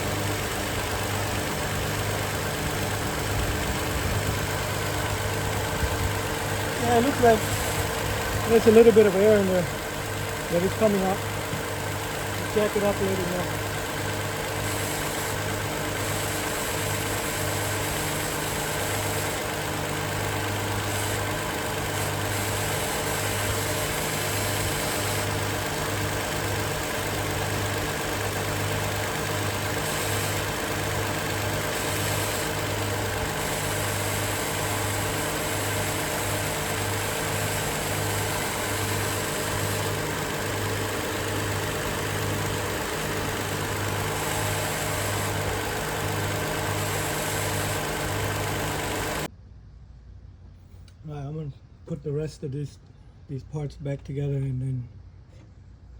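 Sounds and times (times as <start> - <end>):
car engine idling: 0.0 - 49.3.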